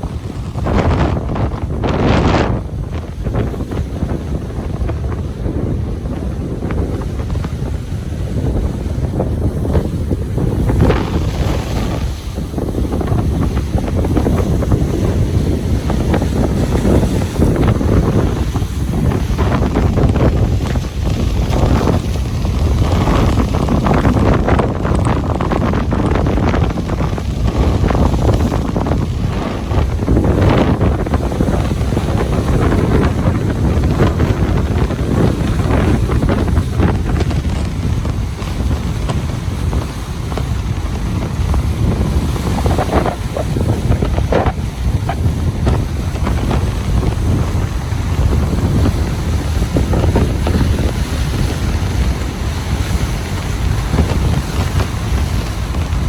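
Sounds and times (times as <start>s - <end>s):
ocean surf on beach: 0.0s - 56.0s
wind buffeting microphone: 0.0s - 56.0s.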